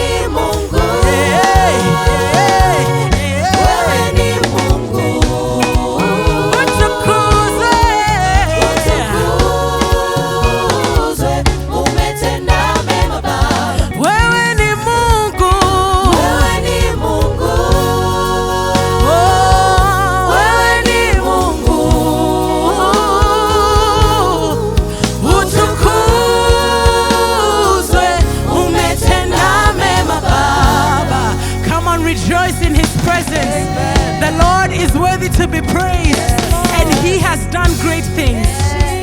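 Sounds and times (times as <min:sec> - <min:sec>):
band with bass and drums: 0:00.0 - 0:39.0
singers holding long lines: 0:00.0 - 0:39.0.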